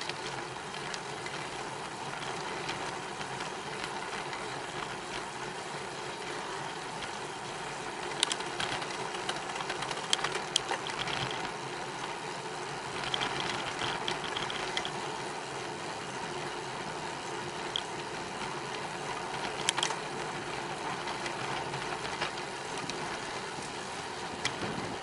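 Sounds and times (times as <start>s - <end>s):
bicycle rattles: 0.0s - 25.0s
freewheel ticking: 0.0s - 25.0s
wind and tyre noise: 0.0s - 25.0s.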